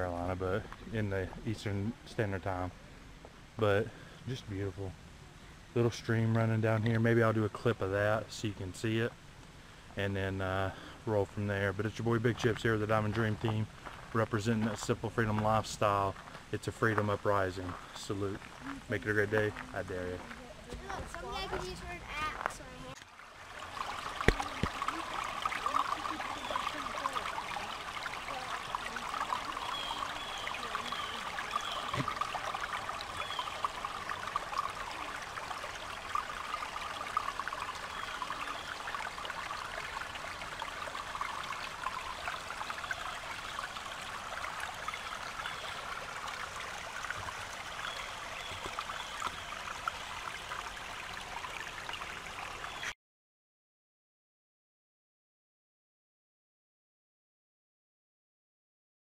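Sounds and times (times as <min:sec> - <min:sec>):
stream trickling over rocks: 0:00.0 - 0:53.0.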